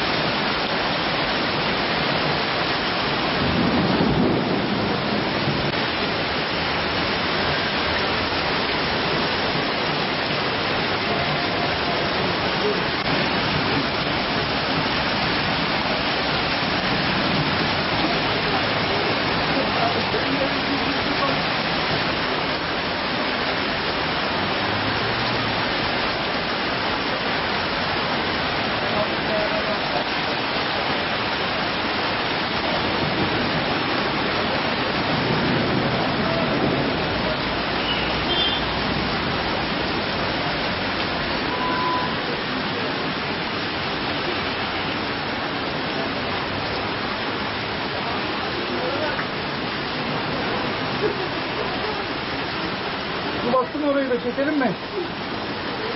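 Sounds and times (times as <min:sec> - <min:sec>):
heavy rain hiss: 0:00.0 - 0:55.9.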